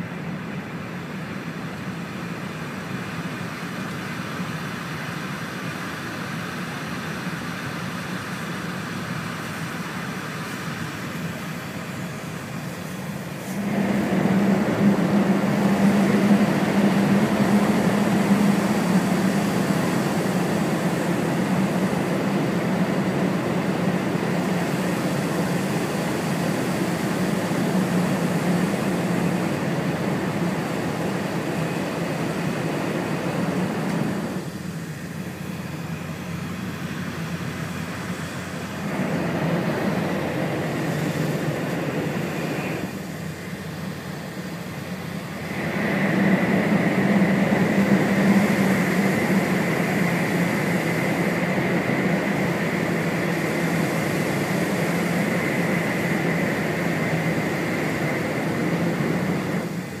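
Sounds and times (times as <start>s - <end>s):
train wheels and air rumbling: 0.0s - 60.0s
high whine: 11.1s - 60.0s.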